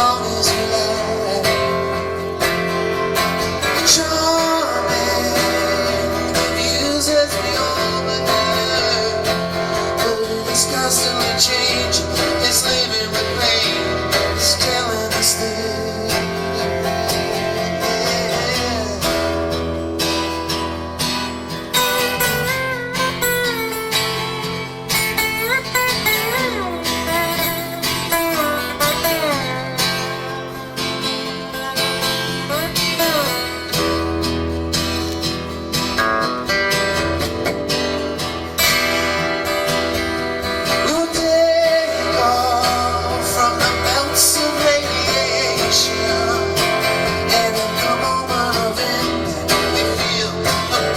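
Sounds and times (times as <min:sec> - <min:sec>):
person singing: 0:00.0 - 0:20.4, 0:21.8 - 0:34.2, 0:39.9 - 0:50.9
gliding guitar lead lines: 0:00.0 - 0:50.9
guitars: 0:00.0 - 0:50.9
live band playing: 0:00.0 - 0:50.9.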